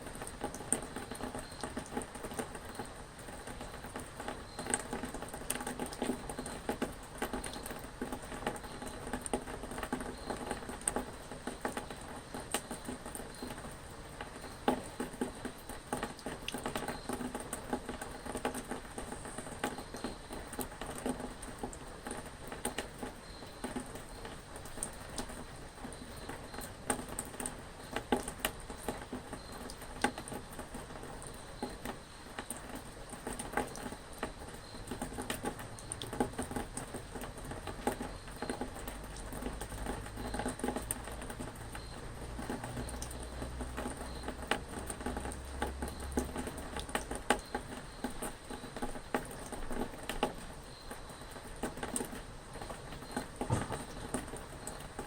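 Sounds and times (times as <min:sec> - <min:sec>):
rain pattering: 0:00.0 - 0:55.0
raindrops ticking: 0:00.0 - 0:55.0.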